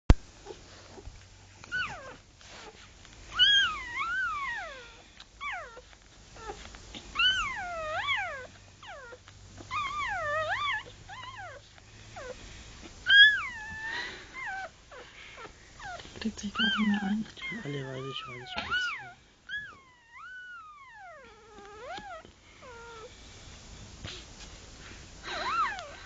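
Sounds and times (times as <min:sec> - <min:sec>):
puppies squeaking: 0:01.7 - 0:12.4, 0:13.0 - 0:23.1, 0:25.3 - 0:26.0.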